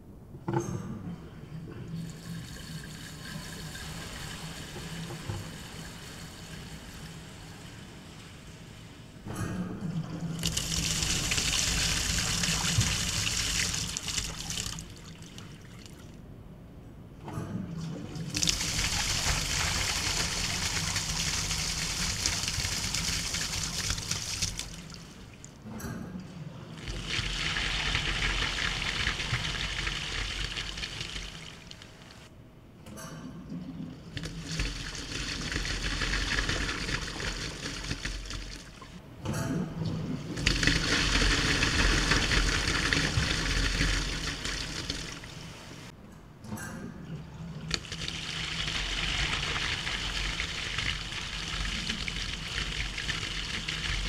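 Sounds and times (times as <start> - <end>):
water rushing down drain pipe: 1.9 - 8.6, 10.0 - 16.0, 17.9 - 25.6, 26.7 - 32.3, 33.4 - 39.0, 39.8 - 45.9, 47.4 - 54.0.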